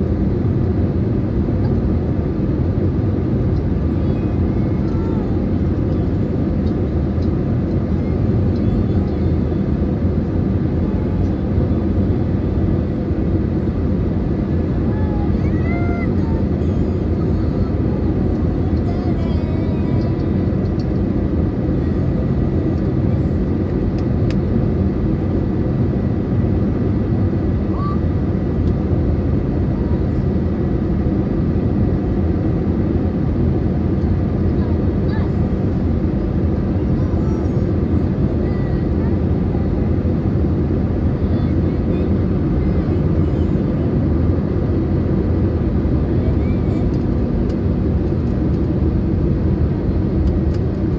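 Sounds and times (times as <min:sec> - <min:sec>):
airplane cabin engine drone: 0:00.0 - 0:50.9.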